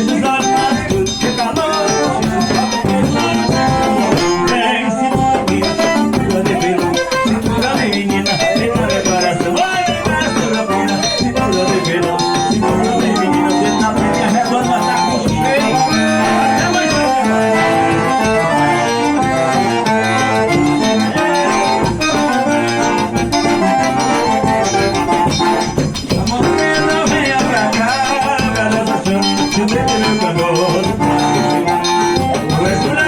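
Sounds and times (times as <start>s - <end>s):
accordion playing lively melody: 0.0s - 33.0s
band accompaniment with steady beat: 0.0s - 33.0s.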